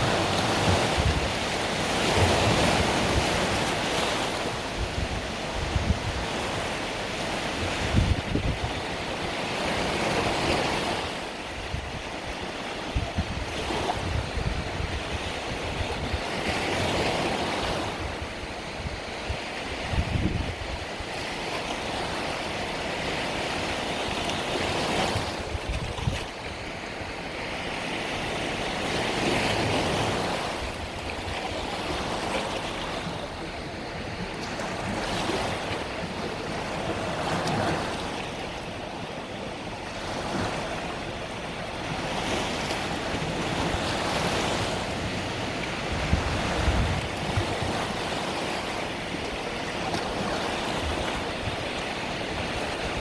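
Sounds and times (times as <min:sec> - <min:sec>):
wind on microphone: 0:00.0 - 0:39.0, 0:39.7 - 0:53.0
sea waves breaking on a beach: 0:00.0 - 0:53.0.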